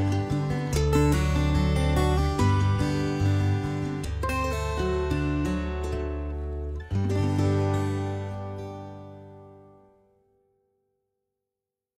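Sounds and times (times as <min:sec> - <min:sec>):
background music held notes: 0:00.0 - 0:09.8.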